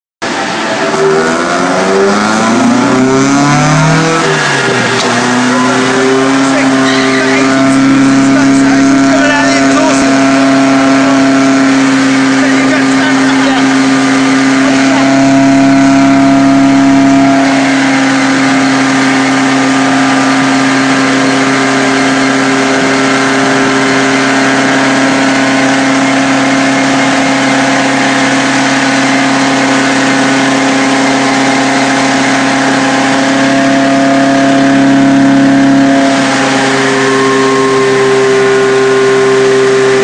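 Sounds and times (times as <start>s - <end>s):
car engine running hard: 0.2s - 40.0s.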